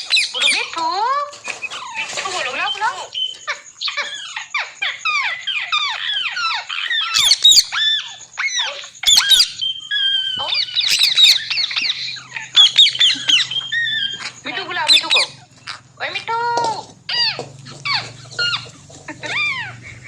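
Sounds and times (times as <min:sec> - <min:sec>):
parrot squawking: 0:00.0 - 0:00.8, 0:01.6 - 0:20.0
parrot chirping: 0:00.0 - 0:20.0.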